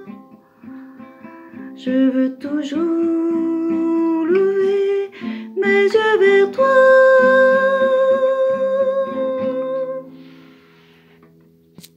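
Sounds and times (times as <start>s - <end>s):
person singing a hymn: 0.0s - 10.1s
plucked acoustic guitar: 0.0s - 11.9s.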